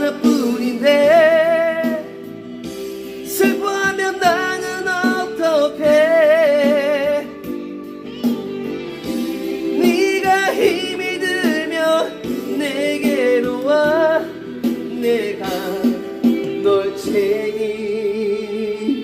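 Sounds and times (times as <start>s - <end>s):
instrumental accompaniment: 0.0s - 19.0s
person singing with vibrato: 0.0s - 19.0s.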